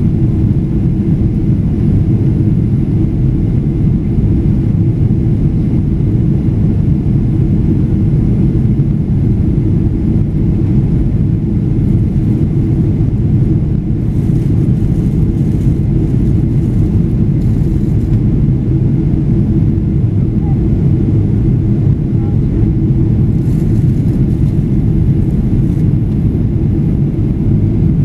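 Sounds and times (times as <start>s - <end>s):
jet engines droning in cabin: 0.0s - 28.0s.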